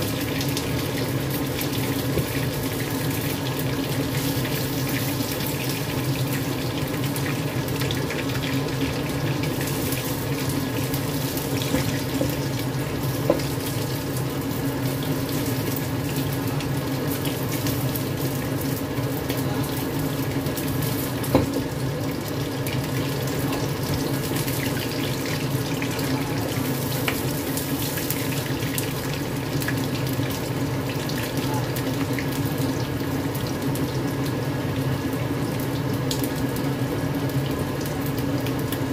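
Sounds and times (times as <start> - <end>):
chicken sizzling in hot oil: 0.0 - 38.9.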